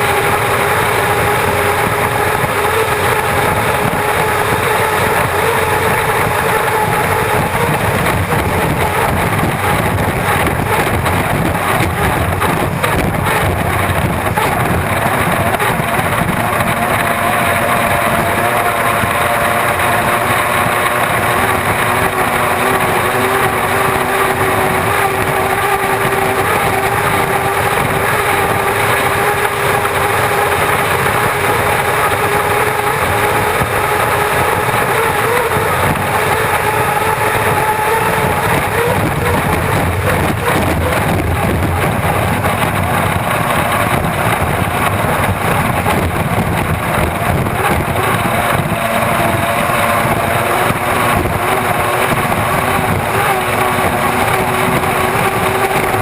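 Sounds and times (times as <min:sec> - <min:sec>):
turbine engine racing: 0:00.0 - 0:56.0
wind noise on microphone: 0:00.0 - 0:56.0.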